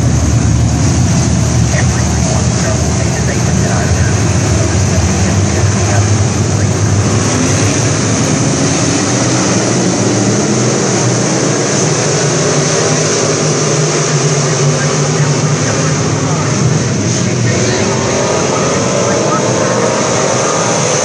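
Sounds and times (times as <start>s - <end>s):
race car engines racing: 0.0s - 21.0s.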